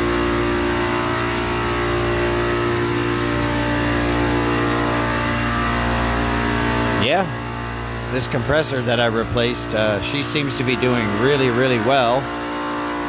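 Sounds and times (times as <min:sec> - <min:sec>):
chiller compressors humming: 0:00.0 - 0:13.0.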